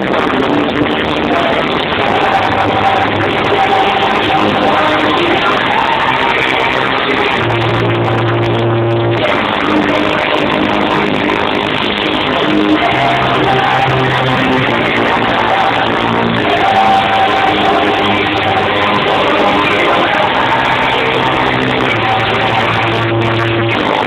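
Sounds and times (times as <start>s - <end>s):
loud electronic dance music: 0.0s - 24.0s.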